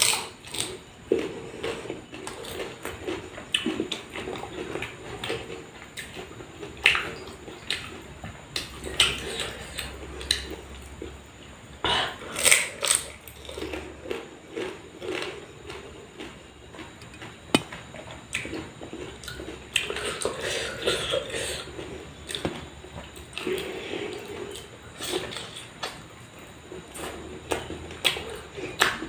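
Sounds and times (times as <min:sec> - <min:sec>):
person chewing crunchy food: 0:00.0 - 0:29.0.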